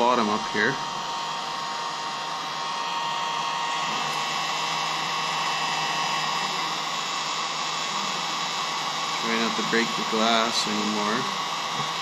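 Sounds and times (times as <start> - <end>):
hot-air blower running: 0.0 - 12.0.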